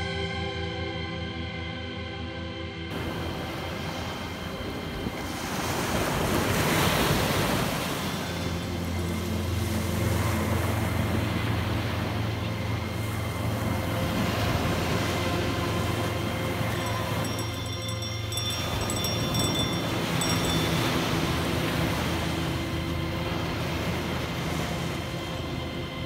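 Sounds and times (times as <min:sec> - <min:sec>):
sea waves breaking on shore: 0:02.9 - 0:26.0.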